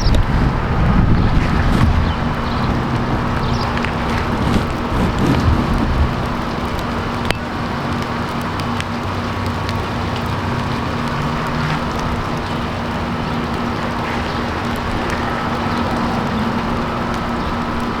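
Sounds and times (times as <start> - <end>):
even outdoor rush: 0.0 - 18.0.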